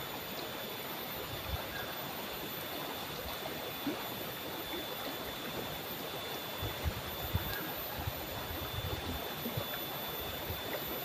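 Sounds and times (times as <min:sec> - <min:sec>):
water gurgles: 0:00.0 - 0:11.0.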